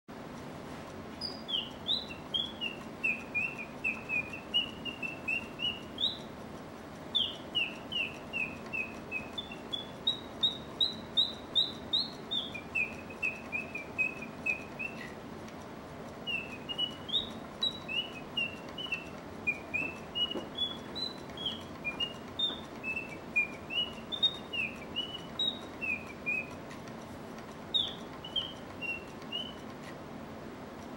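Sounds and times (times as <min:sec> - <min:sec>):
mechanical birdsong whistle: 0:01.2 - 0:06.4, 0:07.0 - 0:15.2, 0:16.2 - 0:26.6, 0:27.6 - 0:29.8.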